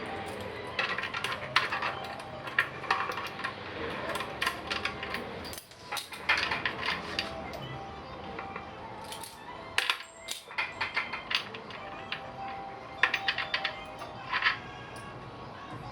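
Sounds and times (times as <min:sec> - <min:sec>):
metal tools clinking: 0:00.0 - 0:07.7, 0:08.4 - 0:15.1.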